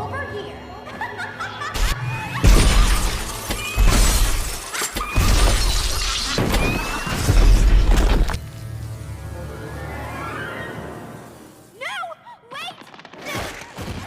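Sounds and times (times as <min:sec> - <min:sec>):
background music: 0:00.0 - 0:05.8, 0:06.4 - 0:12.8.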